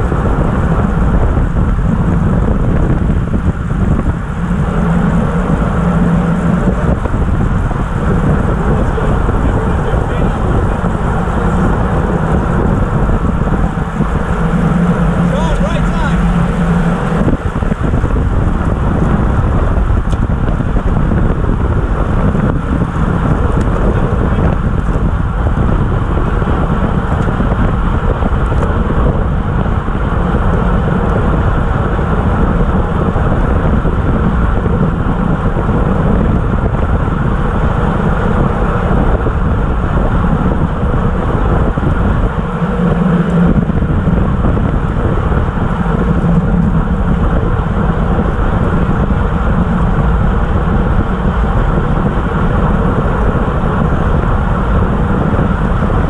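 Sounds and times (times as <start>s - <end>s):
bike road noise: 0.0s - 56.0s
wind rush on microphone: 0.0s - 56.0s.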